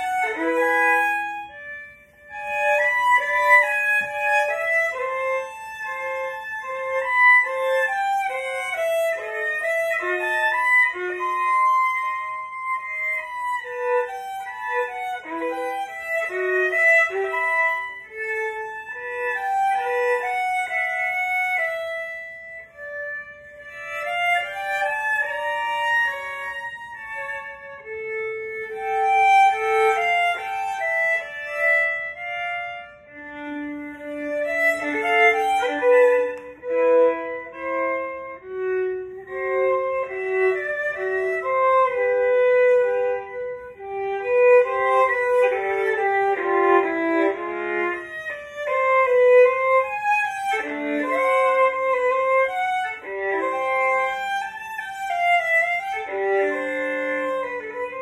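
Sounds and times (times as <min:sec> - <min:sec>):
solo violin melody: 0:00.0 - 0:58.0.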